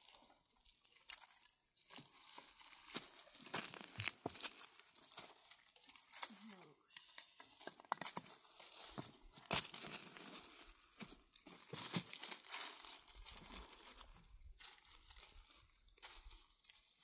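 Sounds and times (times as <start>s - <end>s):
dry material rustling and crinkling: 0.0s - 17.0s.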